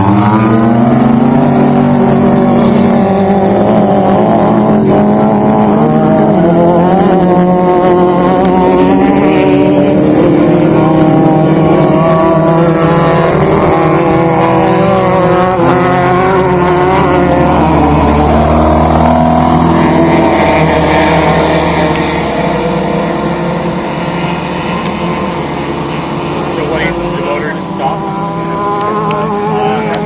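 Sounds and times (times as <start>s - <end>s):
deeper drone: 0.0s - 30.0s
race vehicle engines running loudly: 0.0s - 30.0s.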